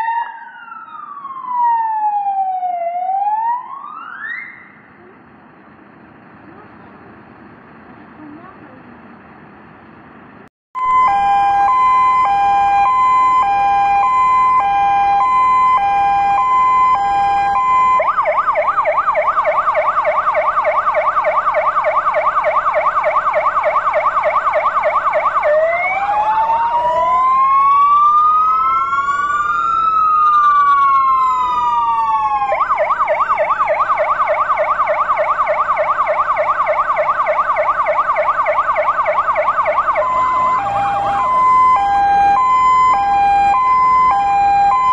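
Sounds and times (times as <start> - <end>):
fire engine siren: 0.0 - 5.0, 10.8 - 44.9.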